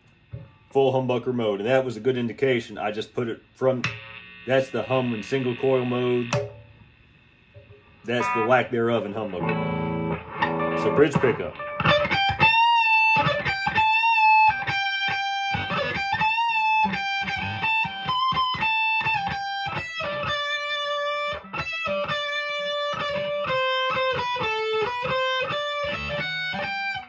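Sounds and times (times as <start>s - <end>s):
distorted electric guitar lead: 2.9s - 27.0s.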